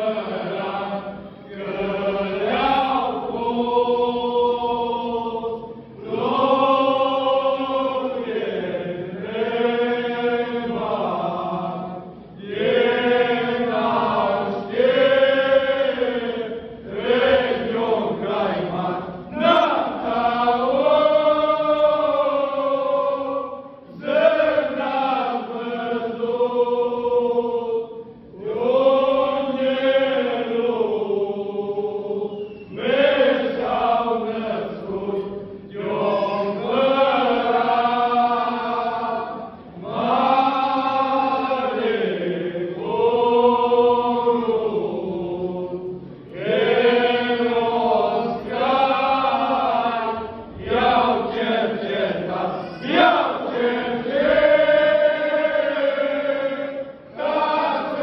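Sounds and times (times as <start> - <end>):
men singing a carol together: 0.0 - 58.0.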